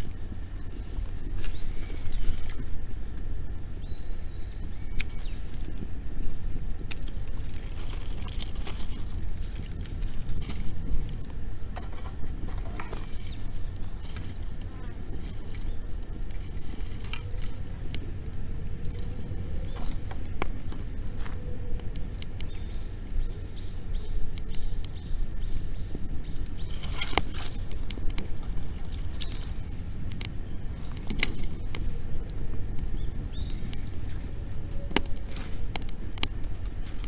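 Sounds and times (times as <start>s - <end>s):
bird chirping: 0.0s - 2.8s, 3.5s - 5.8s, 7.2s - 35.4s
bonfire crackling and popping: 0.0s - 37.0s.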